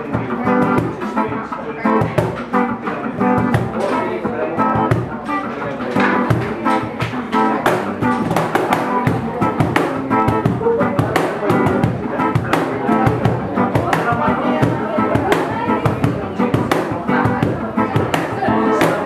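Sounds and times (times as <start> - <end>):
cajon slapped in steady beat: 0.0 - 19.0
reggae band playing live: 0.0 - 19.0.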